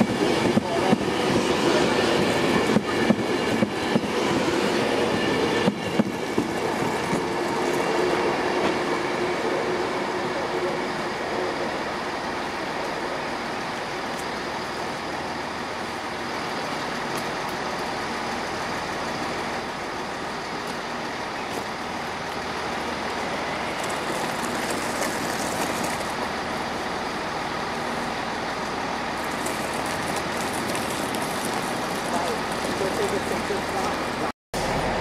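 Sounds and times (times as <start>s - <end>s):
train mechanical noise: 0.0s - 35.0s.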